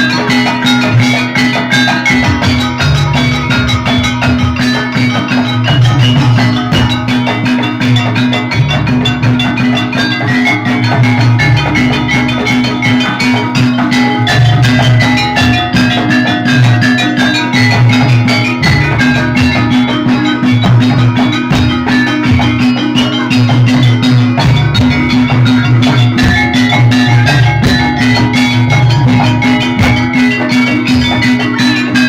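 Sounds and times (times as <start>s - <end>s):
gamelan drums and metal percussion: 0.0s - 32.0s.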